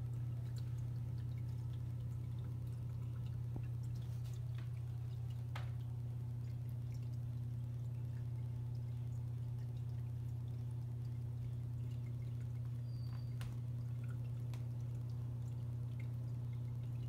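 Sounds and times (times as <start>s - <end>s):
aquarium pump humming: 0.0s - 17.0s
water drips: 0.0s - 17.0s
water trickling: 0.0s - 17.0s.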